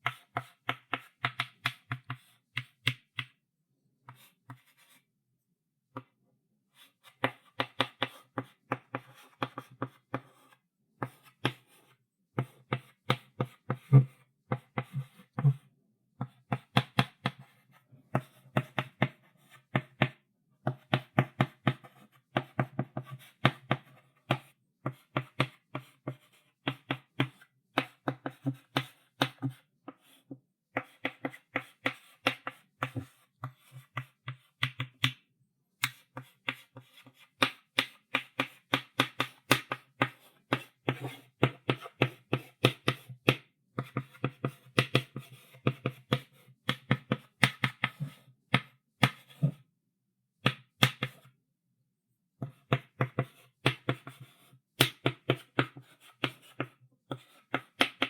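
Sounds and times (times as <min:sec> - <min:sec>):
chalk tapping and scraping on board: 0:00.0 - 0:03.4, 0:04.0 - 0:05.0, 0:06.7 - 0:49.6, 0:50.4 - 0:51.3, 0:52.4 - 0:58.0.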